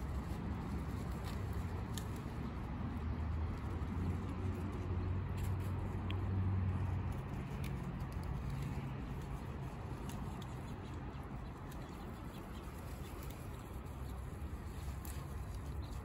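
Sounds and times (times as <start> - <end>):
goats chewing leaves and stems: 0.0 - 16.0
outdoor background noise: 0.0 - 16.0.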